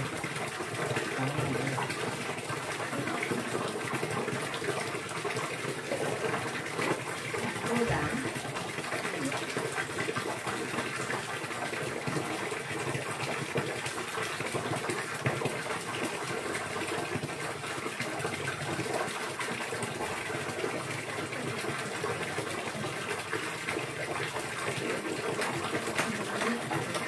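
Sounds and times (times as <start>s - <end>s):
running water gushing: 0.0s - 27.0s.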